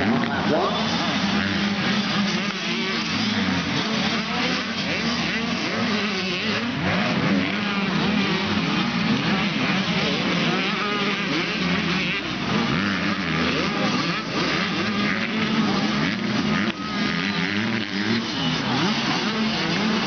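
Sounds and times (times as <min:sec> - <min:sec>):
minibike engines revving: 0:00.0 - 0:20.0.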